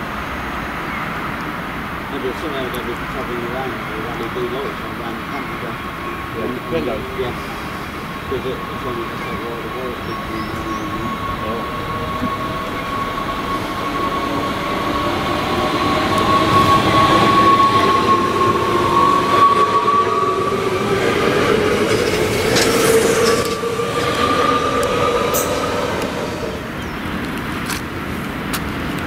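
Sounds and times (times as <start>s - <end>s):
electric train whine: 0.0s - 29.0s
wheels rumbling on rail: 0.0s - 29.0s.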